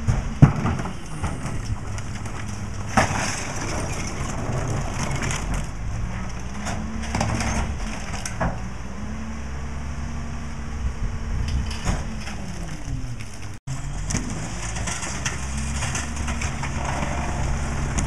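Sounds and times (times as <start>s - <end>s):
bangs and crunches of trash: 0.0s - 8.9s, 11.4s - 18.0s
garbage truck engine drone: 0.0s - 18.0s
hydraulics running: 0.0s - 18.0s.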